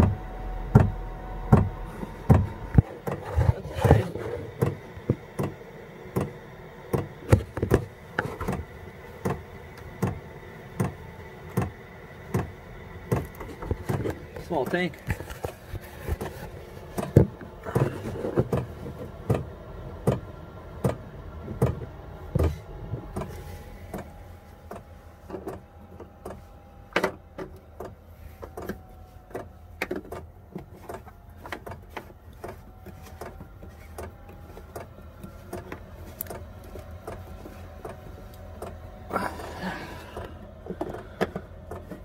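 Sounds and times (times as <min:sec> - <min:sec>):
handling knocks and clicks: 0:00.0 - 0:09.4, 0:13.1 - 0:38.8
heater fan humming with whine: 0:00.0 - 0:42.0.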